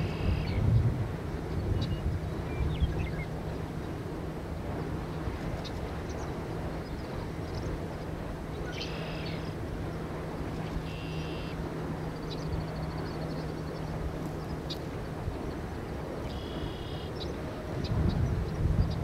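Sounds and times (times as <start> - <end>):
constant low hum: 0.0 - 19.0
steady low rumble: 0.0 - 19.0.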